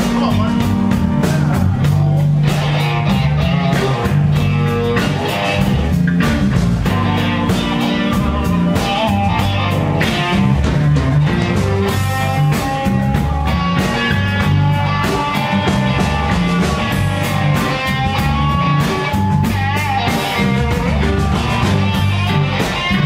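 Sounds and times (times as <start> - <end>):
drum kit beat: 0.0 - 23.0
electric bass: 0.0 - 23.0
electric guitars: 0.0 - 23.0.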